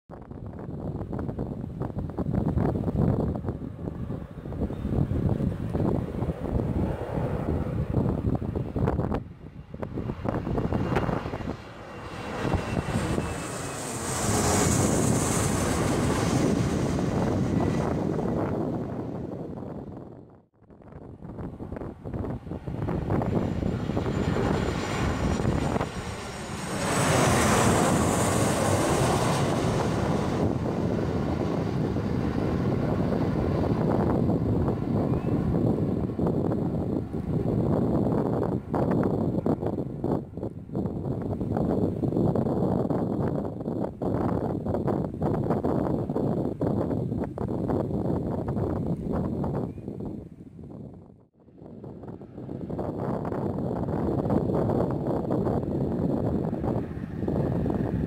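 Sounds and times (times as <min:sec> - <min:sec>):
low jet rumble: 0:00.1 - 0:58.0
wind buffeting microphone: 0:00.1 - 0:58.0
jet airliner passing overhead: 0:00.3 - 0:58.0.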